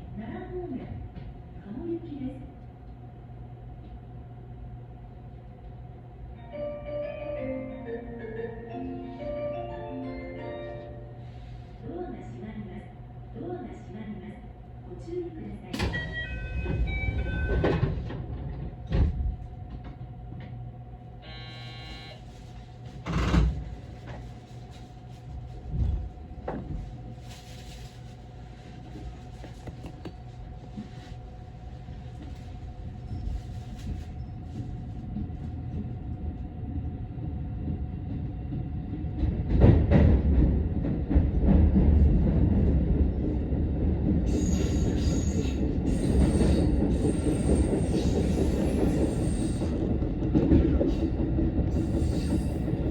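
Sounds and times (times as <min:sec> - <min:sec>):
train cab hum: 0:00.0 - 0:52.9.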